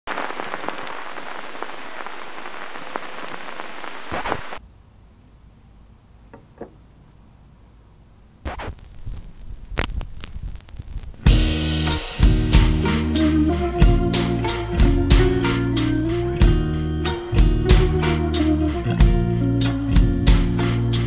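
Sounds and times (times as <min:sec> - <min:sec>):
vinyl record crackle: 0:00.0 - 0:04.6, 0:08.4 - 0:21.0.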